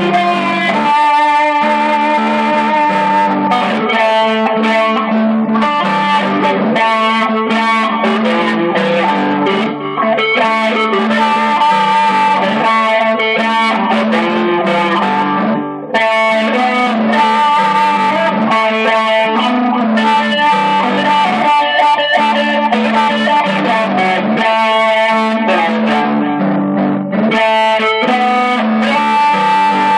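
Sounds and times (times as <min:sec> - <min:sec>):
electric guitar melody: 0:00.0 - 0:29.9.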